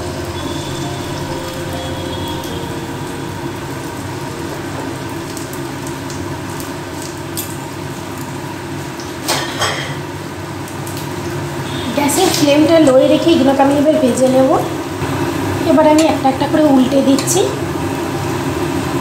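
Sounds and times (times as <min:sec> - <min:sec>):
patties sizzling in oil: 0:00.0 - 0:19.0.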